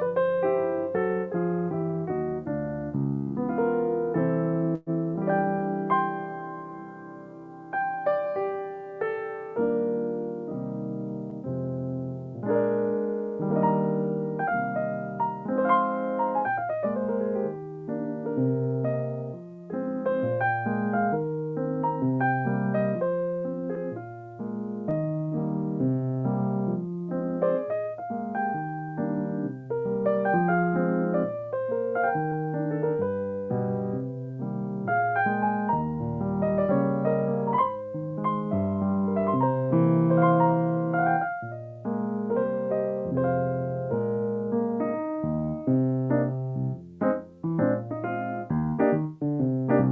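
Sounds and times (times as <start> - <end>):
solo piano playing: 0.0 - 49.9.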